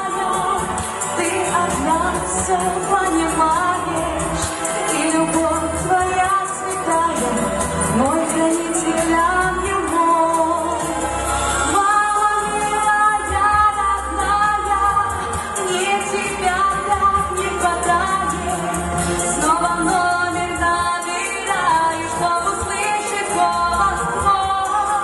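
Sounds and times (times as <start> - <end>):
woman singing slow song: 0.0 - 25.0.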